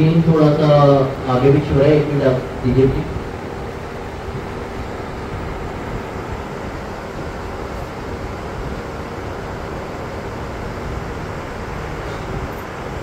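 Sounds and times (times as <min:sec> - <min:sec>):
hall rumble and hiss: 0:00.0 - 0:13.0.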